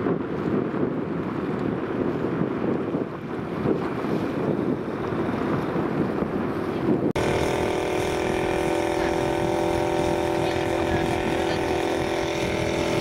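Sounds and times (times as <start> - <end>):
boat engine running steadily: 0.0 - 13.0
wind buffeting microphone: 0.0 - 13.0.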